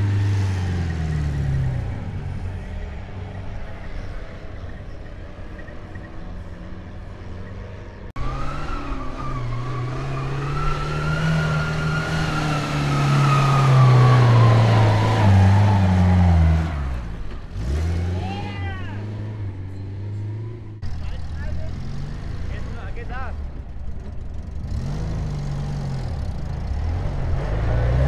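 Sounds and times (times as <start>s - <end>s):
vehicle engine under load: 0.0s - 28.0s.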